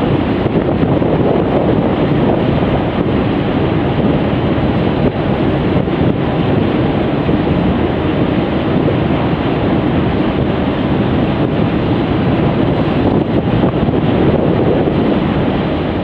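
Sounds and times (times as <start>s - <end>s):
rushing water from boat wake: 0.0s - 16.0s
wind rumble on microphone: 0.0s - 16.0s.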